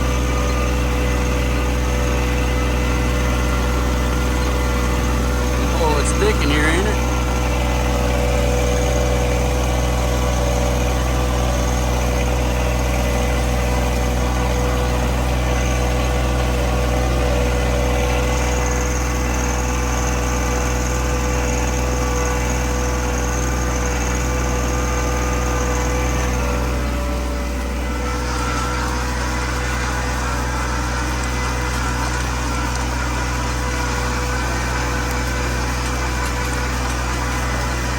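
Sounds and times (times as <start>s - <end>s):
utility vehicle engine running: 0.0s - 37.9s.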